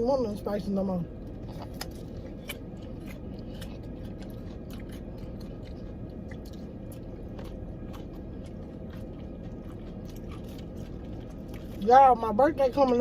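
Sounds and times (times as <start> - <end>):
low hum: 0.0 - 13.0
chewing crispy chicken: 1.1 - 13.0.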